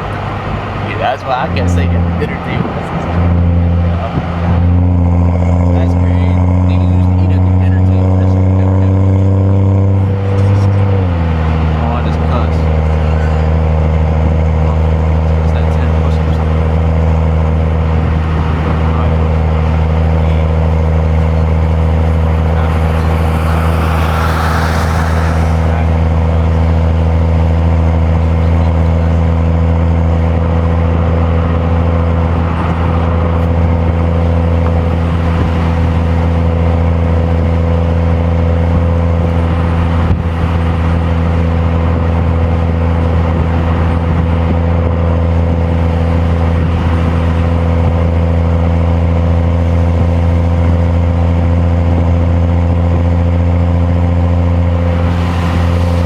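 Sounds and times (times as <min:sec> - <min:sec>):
car engine drone from cabin: 0:00.0 - 0:56.0.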